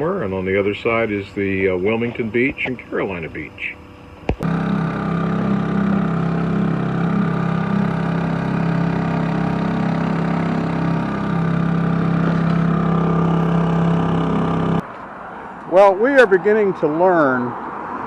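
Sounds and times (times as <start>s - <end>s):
engine running steadily: 0.0s - 14.8s.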